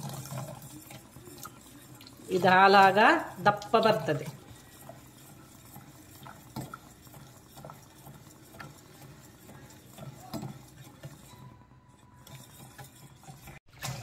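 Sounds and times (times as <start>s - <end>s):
whisk stirring in metal pot: 0.0s - 14.0s.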